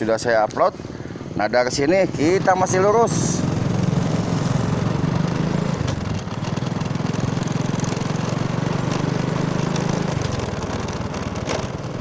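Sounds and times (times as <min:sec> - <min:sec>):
motor scooter engine running: 0:00.8 - 0:12.0.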